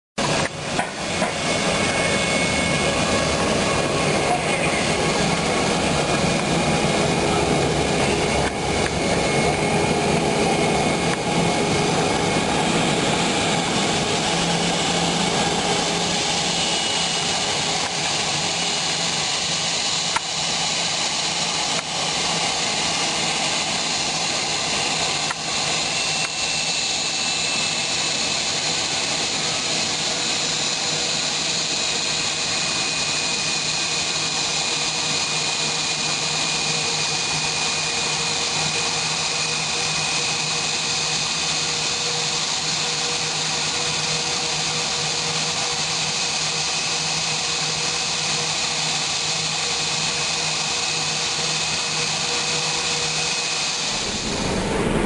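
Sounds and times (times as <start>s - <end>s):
jet engines taxiing: 0.2s - 55.0s.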